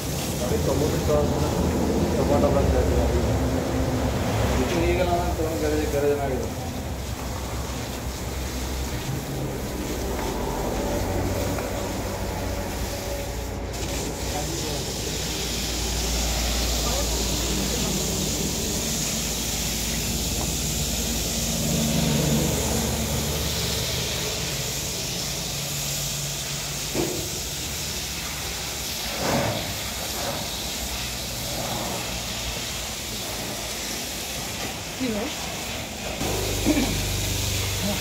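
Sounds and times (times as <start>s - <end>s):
hose water spraying: 0.0s - 38.0s.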